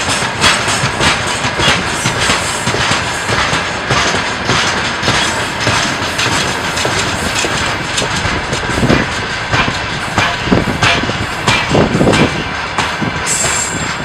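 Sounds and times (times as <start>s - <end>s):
freight train wheels clattering: 0.0s - 14.0s.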